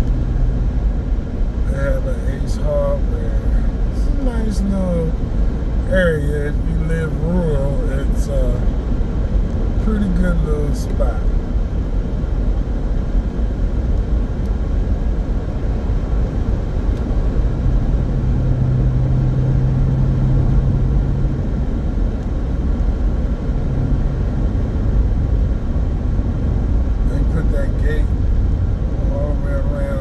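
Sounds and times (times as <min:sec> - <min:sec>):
car road and engine noise: 0:00.0 - 0:30.0
low steady hum: 0:00.0 - 0:30.0.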